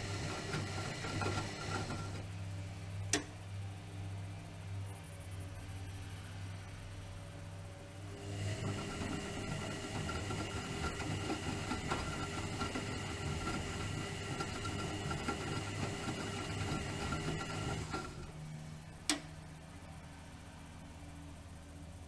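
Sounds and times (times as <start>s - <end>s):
washing machine motor whine: 0.0s - 20.5s.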